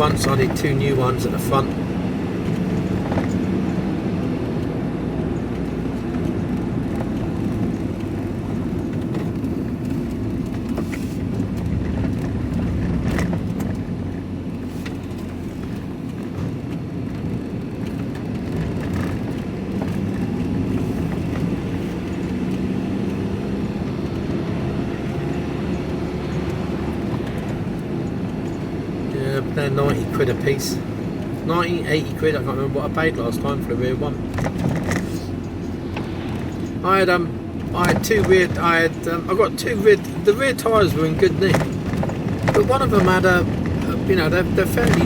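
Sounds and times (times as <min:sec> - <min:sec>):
road noise: 0:00.0 - 0:45.0
van engine rumble: 0:00.0 - 0:45.0.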